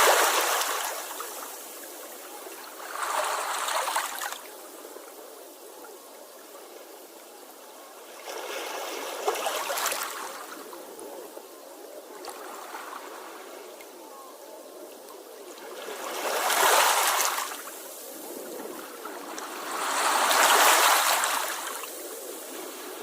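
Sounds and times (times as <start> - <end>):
sea waves washing on shore: 0.0 - 14.0, 14.6 - 23.0.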